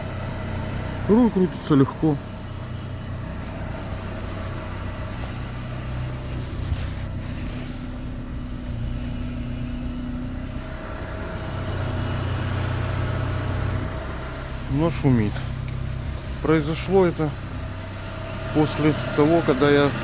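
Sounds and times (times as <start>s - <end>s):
car engine idling: 0.0s - 20.0s
power steering pump whining: 0.0s - 20.0s.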